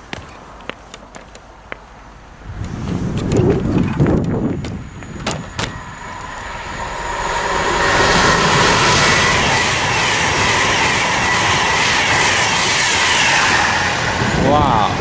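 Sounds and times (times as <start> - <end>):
train rushing past: 2.2 - 15.0.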